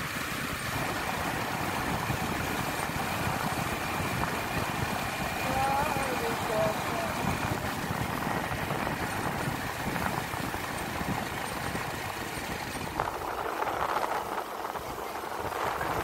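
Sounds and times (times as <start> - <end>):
motorcycle engine running: 0.0 - 16.0
road noise: 0.0 - 16.0
rushing wind: 0.0 - 16.0.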